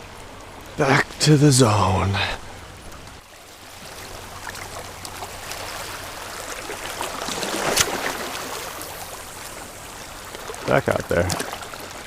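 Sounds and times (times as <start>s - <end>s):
ocean wave washing on shore: 0.0s - 12.0s.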